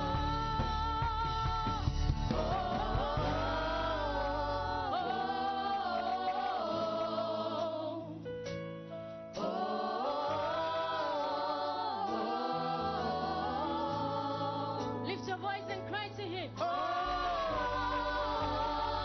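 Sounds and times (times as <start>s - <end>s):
choir singing gospel song: 0.0s - 8.3s, 9.4s - 15.7s, 16.4s - 19.0s.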